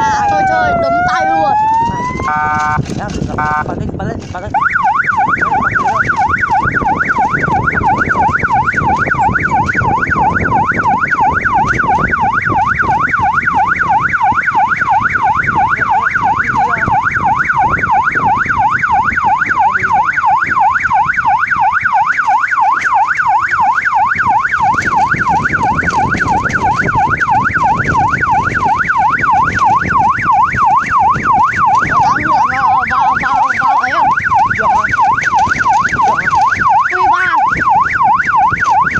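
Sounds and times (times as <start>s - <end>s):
electronic siren yelping: 0.0s - 3.8s, 4.4s - 38.9s
low rumble of bicycle ride: 0.0s - 38.9s.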